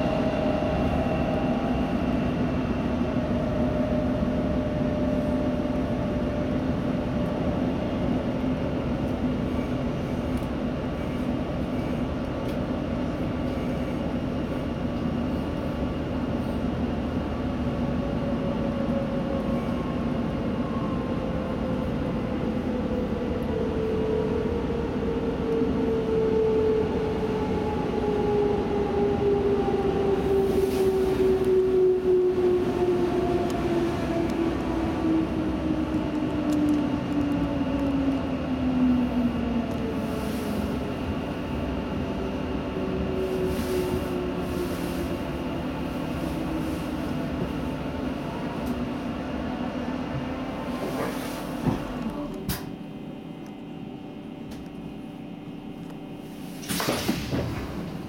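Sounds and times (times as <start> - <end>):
wheels rumbling on rails: 0.0 - 52.5.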